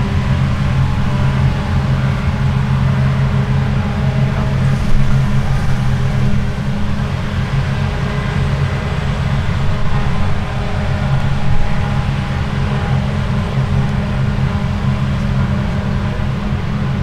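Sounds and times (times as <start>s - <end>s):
deep engine drone: 0.0s - 17.0s
rush of machinery: 0.0s - 17.0s.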